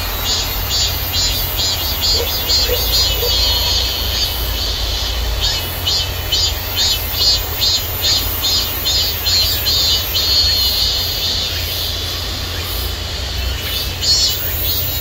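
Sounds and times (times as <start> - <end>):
cicadas singing: 0.0 - 15.0.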